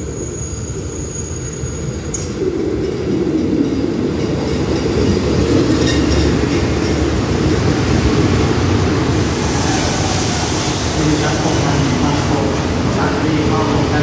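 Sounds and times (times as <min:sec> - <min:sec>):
train rumbling into station: 0:00.0 - 0:14.0.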